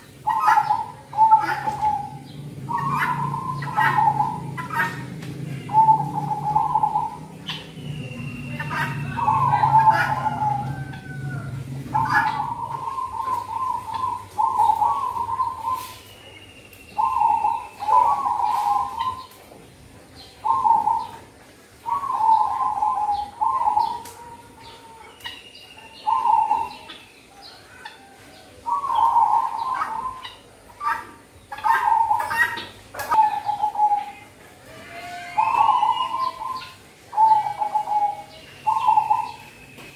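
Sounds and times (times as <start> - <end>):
dove cooing: 0.0 - 16.0, 17.0 - 19.3, 20.4 - 25.3, 26.0 - 39.6.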